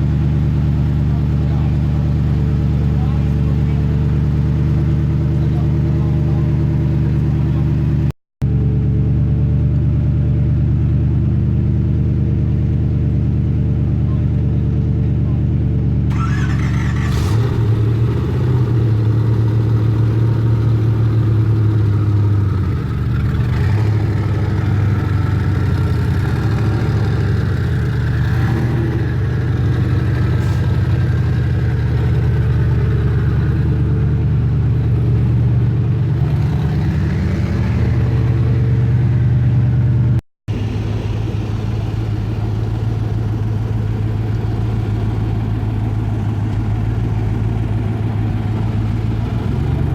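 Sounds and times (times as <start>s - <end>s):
car engines running at low revs: 0.0s - 49.9s.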